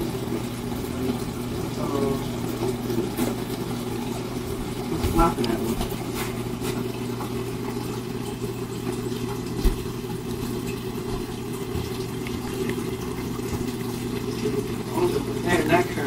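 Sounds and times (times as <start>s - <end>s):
low electric hum: 0.0s - 16.0s.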